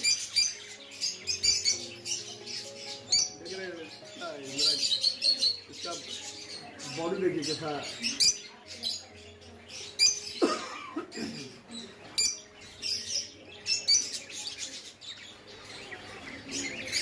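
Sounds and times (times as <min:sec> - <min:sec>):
parrots chirping and calling: 0:00.0 - 0:17.0.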